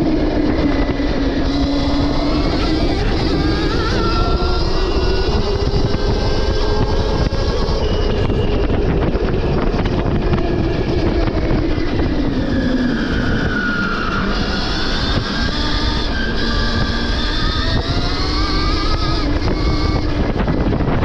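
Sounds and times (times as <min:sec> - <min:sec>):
electric motor whine: 0:00.0 - 0:21.0
heavy low rumble: 0:00.0 - 0:21.0.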